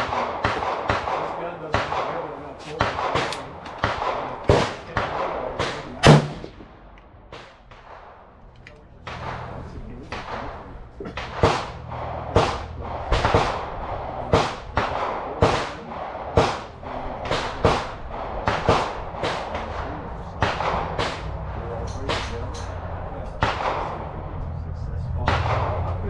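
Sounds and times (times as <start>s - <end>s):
gunshots: 0.0s - 26.0s
steady low rumble: 0.0s - 26.0s.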